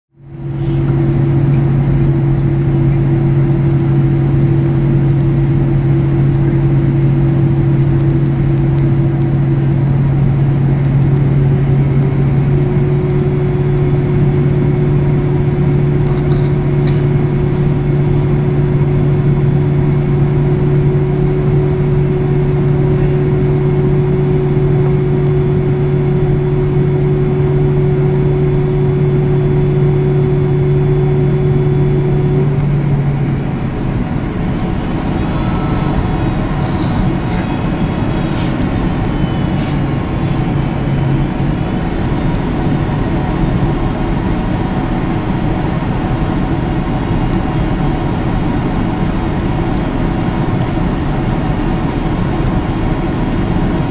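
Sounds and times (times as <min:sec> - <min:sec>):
loud machine drone: 0:00.2 - 0:53.9.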